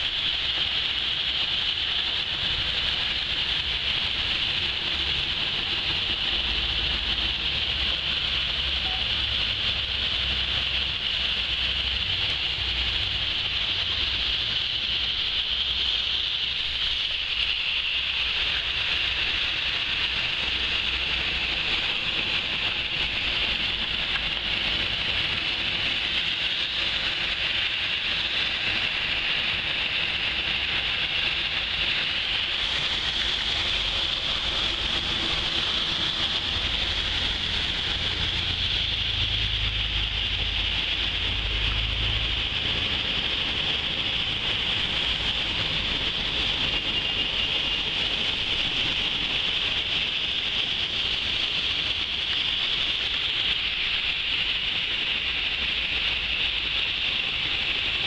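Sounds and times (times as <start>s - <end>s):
heavy rain pouring on street: 0.0s - 58.0s
traffic rumbling on wet road: 0.0s - 58.0s.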